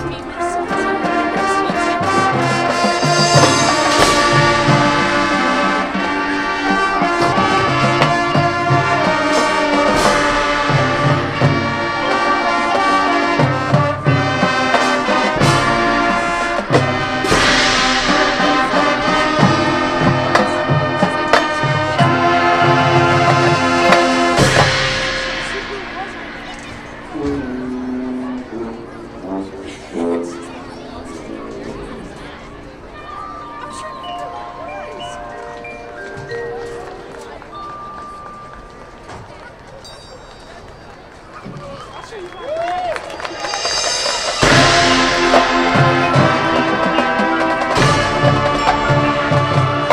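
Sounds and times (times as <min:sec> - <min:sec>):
marching band playing: 0:00.0 - 0:49.9.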